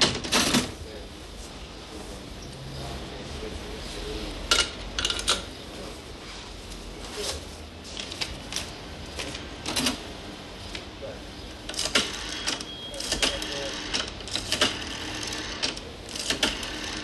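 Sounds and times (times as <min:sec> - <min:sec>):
cafe background hum: 0:00.0 - 0:17.0.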